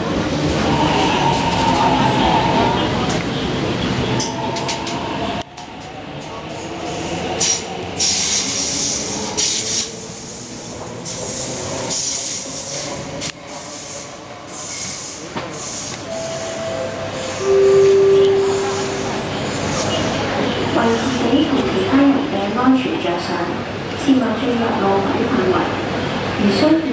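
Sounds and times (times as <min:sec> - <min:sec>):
train wheels on rails: 0:00.0 - 0:22.6.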